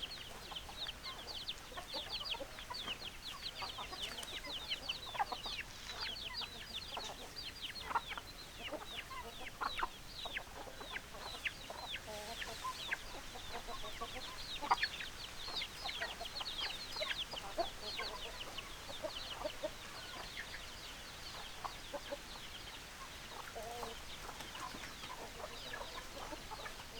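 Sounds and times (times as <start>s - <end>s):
chickens clucking: 0.0s - 26.9s
chicks chirping: 0.0s - 26.9s.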